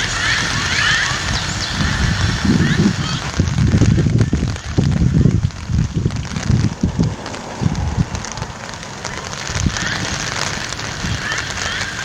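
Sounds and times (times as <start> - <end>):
bird calls: 0.0 - 12.0
gusty low rumbling: 0.0 - 12.0
rain pattering: 0.0 - 12.0.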